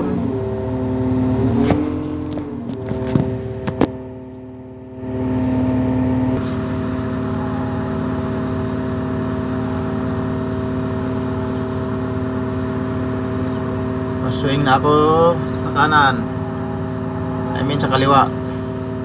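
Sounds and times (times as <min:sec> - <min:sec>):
crane engine droning: 0:00.0 - 0:19.0.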